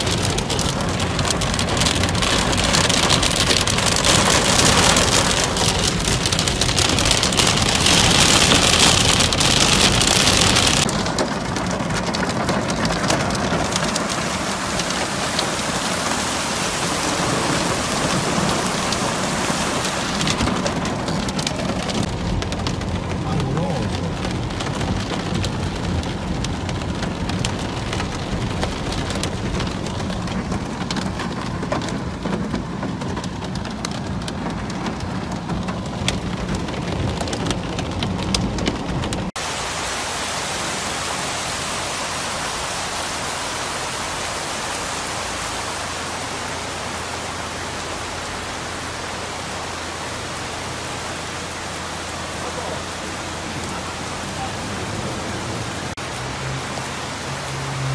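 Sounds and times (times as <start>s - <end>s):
heavy rain hissing on street: 0.0s - 57.9s
rain and hail on car roof: 0.0s - 57.9s.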